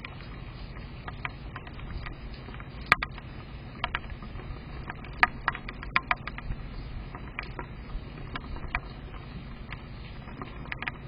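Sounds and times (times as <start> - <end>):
rain hiss: 0.0 - 11.0
raindrops ticking: 0.0 - 11.0.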